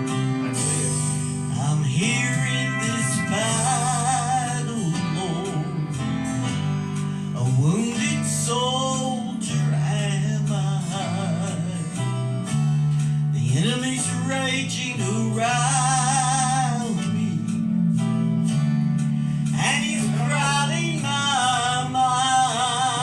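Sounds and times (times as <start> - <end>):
person singing with vibrato: 0.0 - 6.5, 7.1 - 12.4, 13.3 - 23.0
instrumental accompaniment: 0.0 - 23.0.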